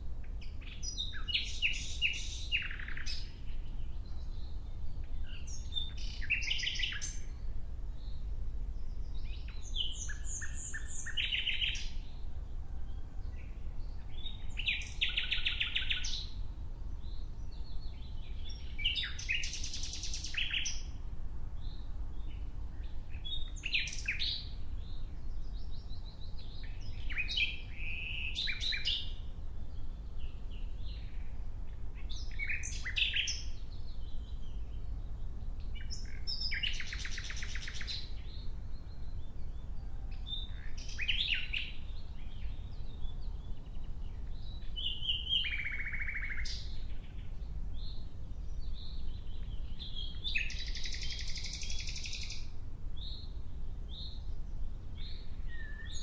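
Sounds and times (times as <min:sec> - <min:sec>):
nightingale singing: 0:00.0 - 0:21.0, 0:21.6 - 0:31.4, 0:32.0 - 0:56.0.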